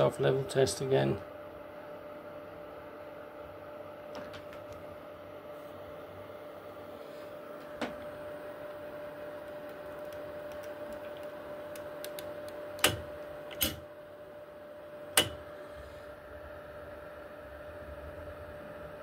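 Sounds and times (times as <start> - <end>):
three-d printer humming: 0.0 - 19.0.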